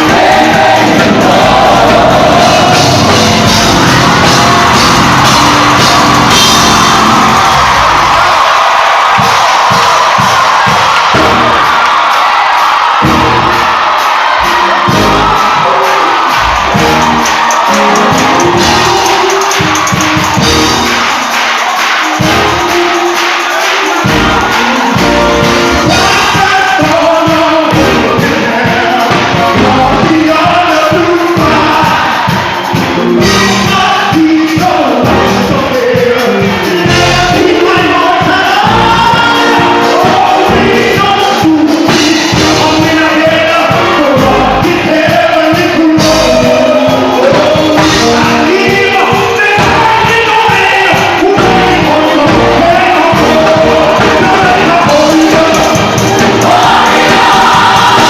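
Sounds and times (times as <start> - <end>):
choir singing: 0.0 - 35.3, 36.2 - 58.0
band with steady beat: 0.0 - 58.0.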